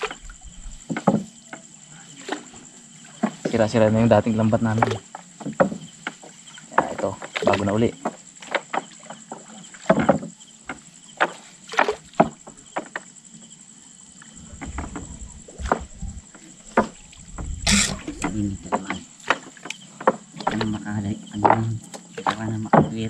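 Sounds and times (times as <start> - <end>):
water splashing and sloshing: 0.0 - 13.1, 14.1 - 23.0.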